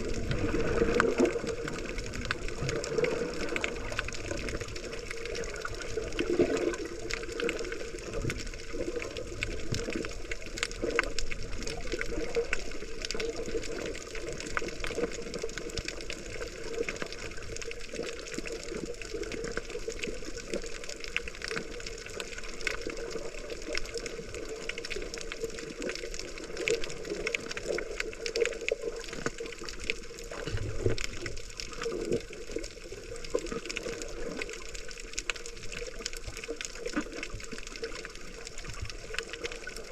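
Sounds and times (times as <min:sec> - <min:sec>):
small crackling clicks: 0:00.0 - 0:39.9.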